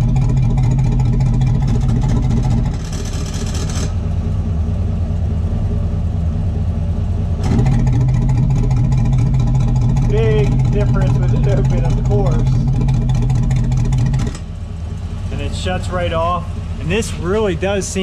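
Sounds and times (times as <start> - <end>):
exhaust cutout motor whirring: 0.0 - 5.5, 7.3 - 18.0
pickup truck idling: 0.0 - 18.0.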